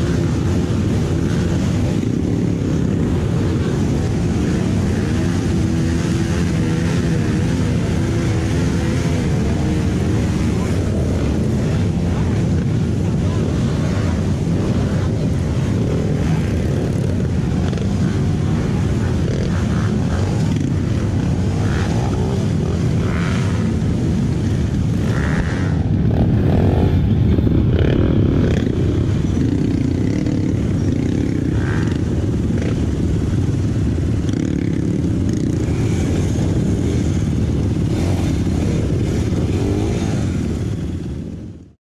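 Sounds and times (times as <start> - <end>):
motorcycle engine running: 0.0 - 41.8.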